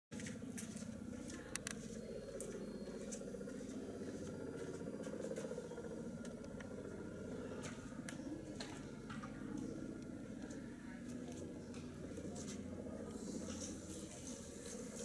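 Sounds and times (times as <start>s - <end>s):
helicopter rotor beating: 0.1s - 15.0s.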